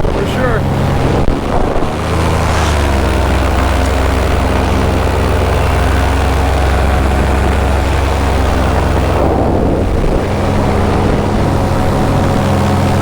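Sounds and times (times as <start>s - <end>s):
paramotor engine droning: 0.0s - 13.0s.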